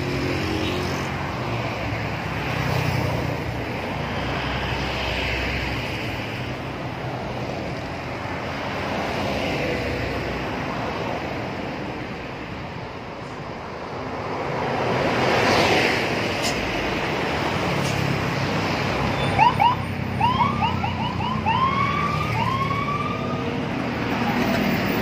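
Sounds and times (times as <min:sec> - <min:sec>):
passing road traffic: 0:00.0 - 0:25.0.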